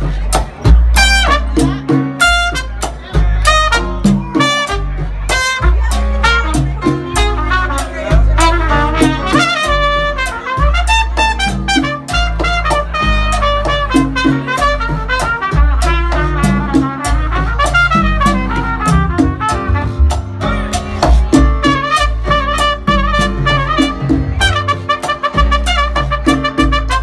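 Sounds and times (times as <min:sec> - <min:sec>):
deep bass notes: 0:00.0 - 0:27.0
percussion strikes: 0:00.0 - 0:27.0
trumpet melody: 0:00.8 - 0:27.0.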